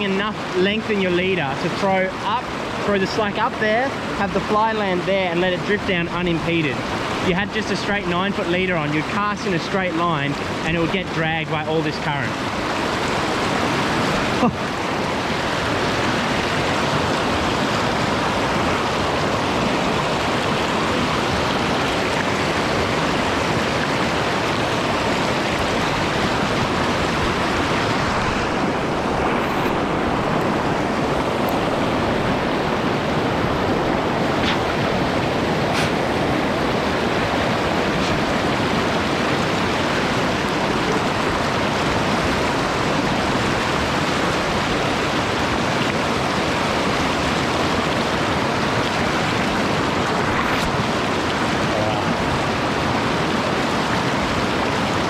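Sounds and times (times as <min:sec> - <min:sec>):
mountain stream rushing: 0:00.0 - 0:55.0.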